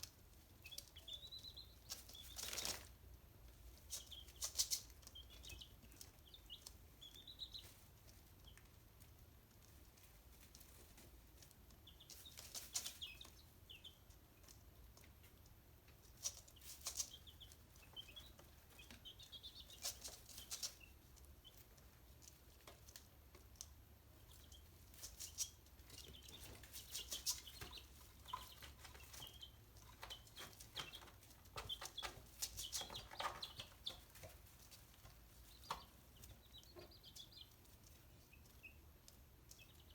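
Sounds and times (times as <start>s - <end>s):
chicken peeps and clucks: 0.0s - 39.9s
chickens pecking taps: 0.0s - 39.9s.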